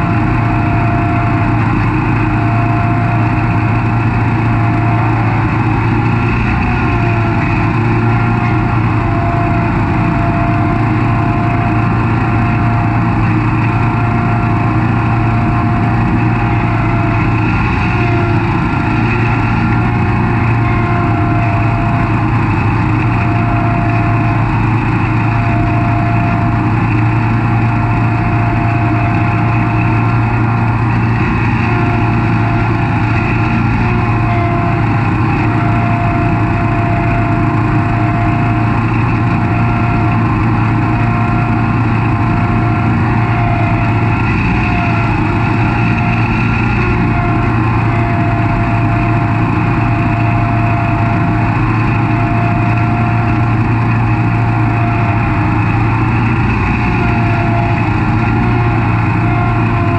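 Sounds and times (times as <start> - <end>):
high whine: 0.0 - 59.9
lawn mower engine drone: 0.0 - 59.9.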